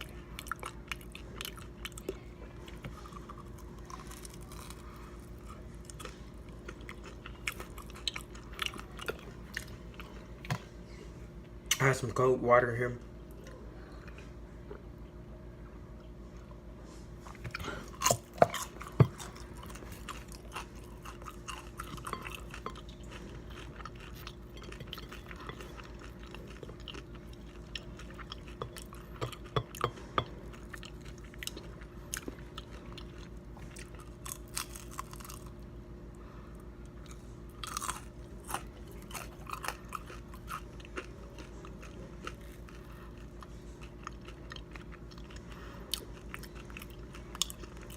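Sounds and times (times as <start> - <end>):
person chewing crunchy food: 0.0 - 10.7, 17.2 - 47.9
steady low hum: 0.0 - 47.9.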